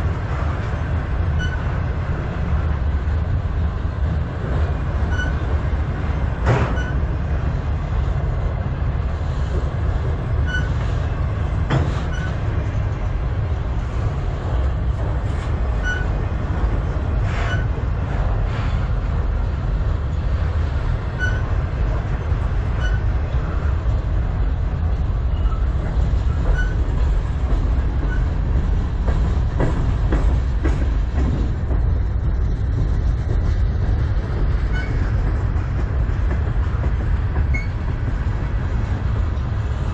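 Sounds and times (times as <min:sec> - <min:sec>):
train cars clanking: 0:00.0 - 0:39.9
train wheels rumbling on rails: 0:00.0 - 0:39.9.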